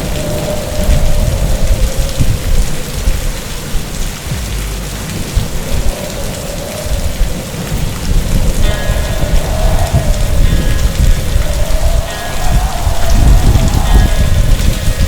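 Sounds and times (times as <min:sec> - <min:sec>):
deep continuous rumble: 0:00.0 - 0:15.0
heavy rain pouring: 0:00.0 - 0:15.0
wind howling: 0:00.0 - 0:15.0.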